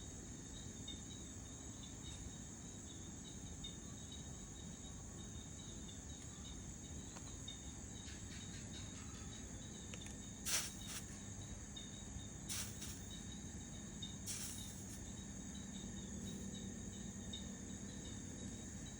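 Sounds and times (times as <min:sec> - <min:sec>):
insect chorus chirring: 0:00.0 - 0:18.9.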